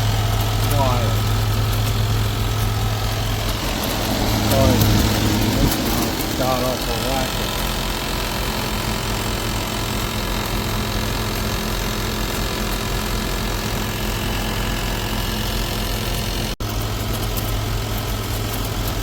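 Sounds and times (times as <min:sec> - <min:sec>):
window air conditioner humming: 0:00.0 - 0:19.0.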